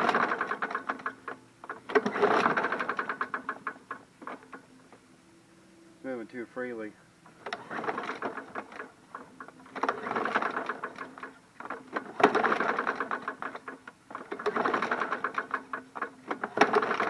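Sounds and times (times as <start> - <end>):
mower engine cranking without firing: 0.0 - 5.0, 7.2 - 17.0.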